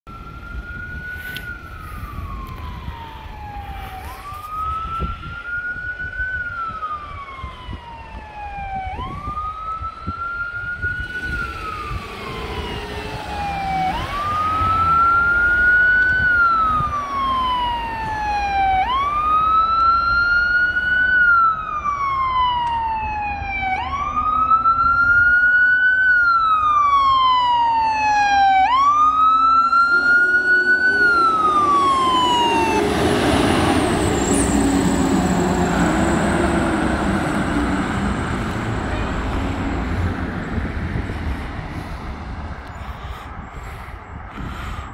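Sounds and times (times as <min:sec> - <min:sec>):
fire engine siren wailing: 0:00.0 - 0:43.5.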